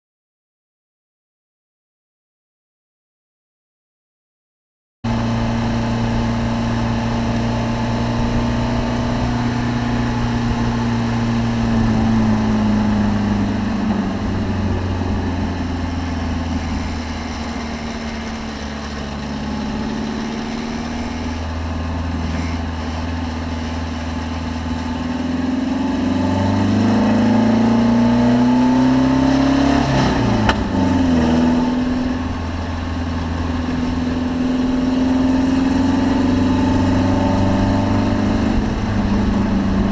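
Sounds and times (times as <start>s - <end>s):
race car engine running: 5.1s - 39.9s.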